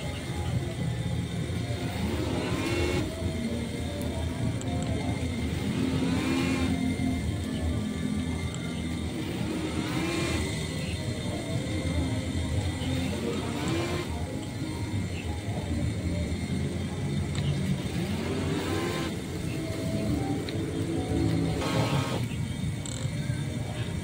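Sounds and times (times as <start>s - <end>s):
model boat electric motors whining: 0.0s - 24.0s.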